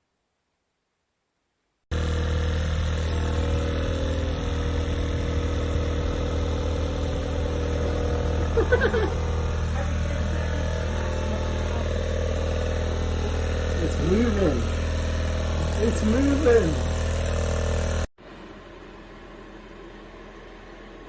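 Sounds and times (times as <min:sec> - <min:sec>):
fan heater motor humming: 0:01.9 - 0:21.0.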